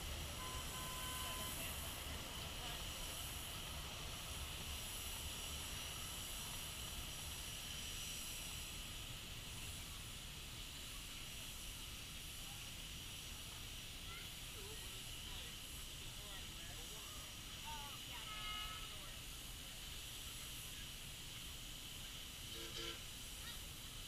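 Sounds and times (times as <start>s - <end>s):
miniature train hiss and rumble: 0.0s - 24.0s.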